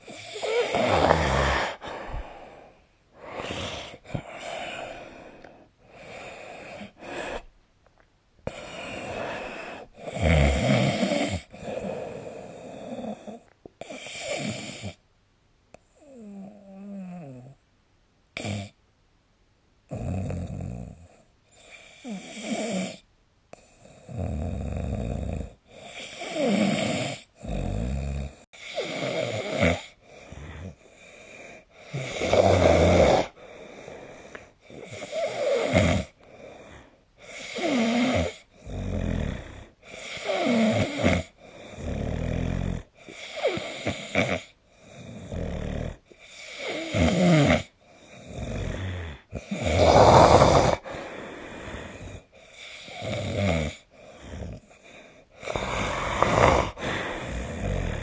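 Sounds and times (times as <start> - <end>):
person snoring: 0.0 - 7.5, 8.5 - 15.0, 19.9 - 23.0, 23.6 - 58.0.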